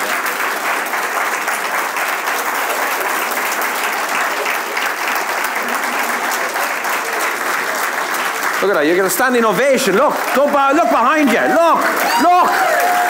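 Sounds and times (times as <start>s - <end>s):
large audience clapping: 0.0s - 13.0s.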